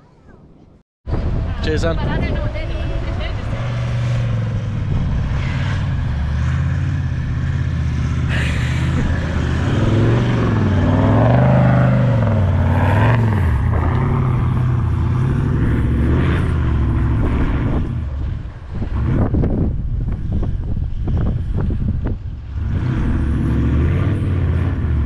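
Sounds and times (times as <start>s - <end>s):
vehicle engine working hard: 1.1s - 25.0s.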